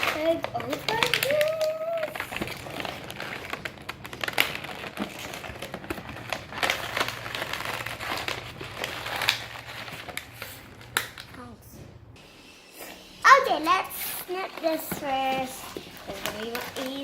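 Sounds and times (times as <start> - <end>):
packaging crinkling and rustling: 0.0 - 11.5, 12.8 - 17.0.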